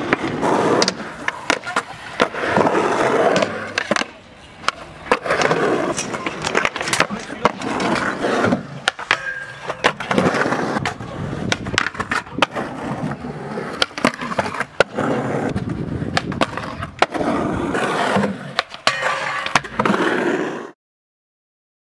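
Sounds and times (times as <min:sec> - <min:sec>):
skateboard clacks: 0:00.0 - 0:20.8
skateboard wheels rolling on concrete: 0:00.0 - 0:20.8.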